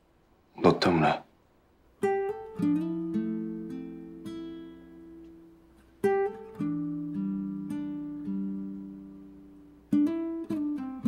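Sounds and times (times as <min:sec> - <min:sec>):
acoustic guitar chords: 0:02.0 - 0:11.0.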